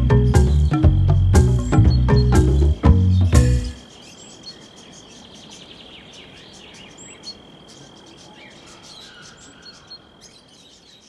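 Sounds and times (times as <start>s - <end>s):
faint birdsong chirps and whistles: 0.0s - 11.0s.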